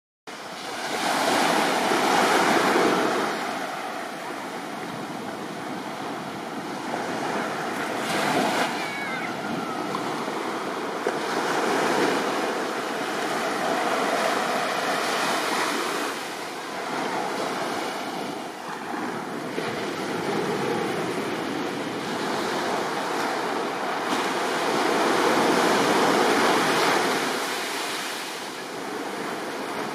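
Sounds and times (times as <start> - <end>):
small waves breaking on beach: 0.3 - 29.9.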